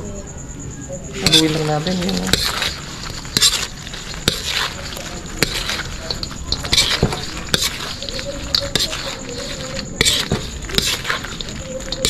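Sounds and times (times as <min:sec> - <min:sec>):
steady sizzle: 0:01.0 - 0:12.0.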